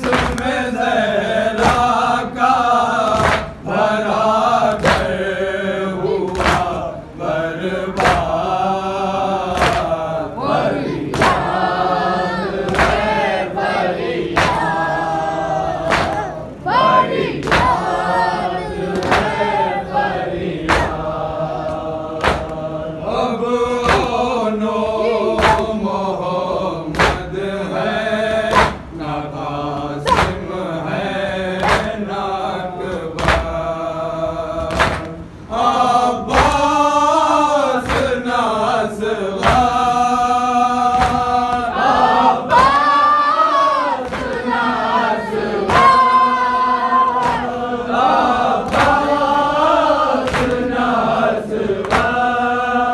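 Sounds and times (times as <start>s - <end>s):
men chanting in unison: 0.0s - 52.9s.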